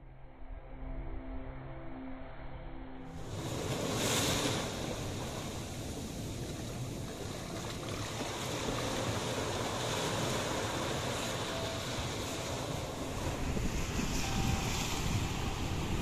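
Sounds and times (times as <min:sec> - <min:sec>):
small waves breaking on shore: 0:03.2 - 0:16.0.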